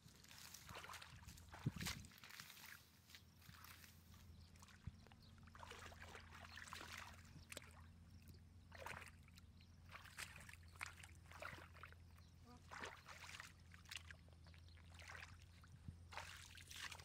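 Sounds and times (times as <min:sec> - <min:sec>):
hands splashing in muddy water: 0:00.2 - 0:02.8, 0:04.5 - 0:07.9, 0:08.7 - 0:12.0, 0:12.6 - 0:17.0.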